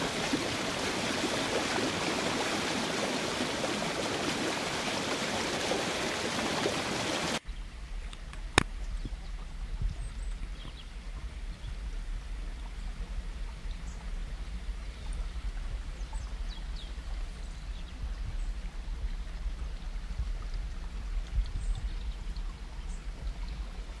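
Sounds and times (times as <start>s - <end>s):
stream trickling: 0.0s - 24.0s
wind rumble on microphone: 0.0s - 24.0s.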